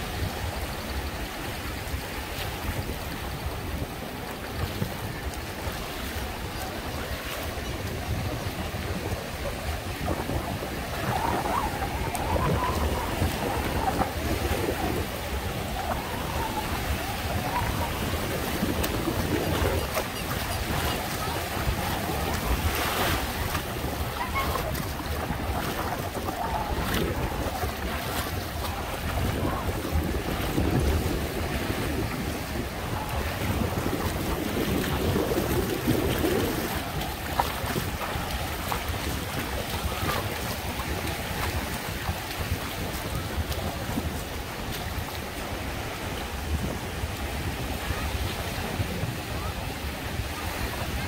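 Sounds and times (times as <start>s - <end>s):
surf washing up a beach: 0.0s - 51.0s
wind on microphone: 0.0s - 51.0s.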